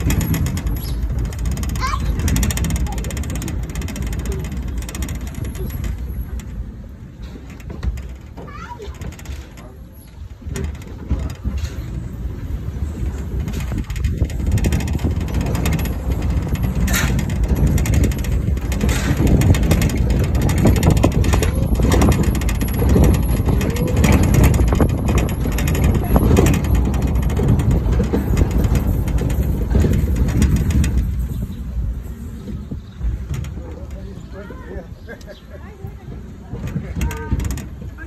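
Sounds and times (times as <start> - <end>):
car engine and tyre noise: 0.0 - 8.3, 9.2 - 34.3.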